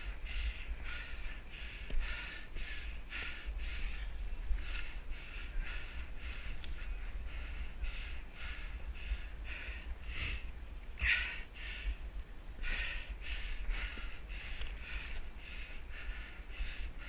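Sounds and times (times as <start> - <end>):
person panting hard: 0.0 - 17.0
wind rumble on microphone: 0.0 - 17.0.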